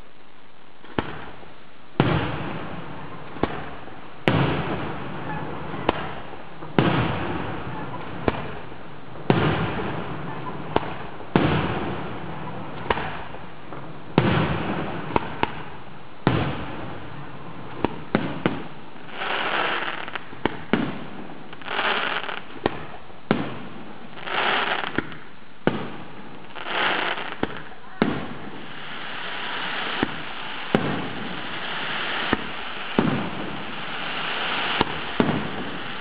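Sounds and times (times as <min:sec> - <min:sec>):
fireworks bangs with echo: 0:00.0 - 0:36.0
fireworks hissing: 0:00.0 - 0:36.0
sharp firework cracks: 0:00.0 - 0:36.0.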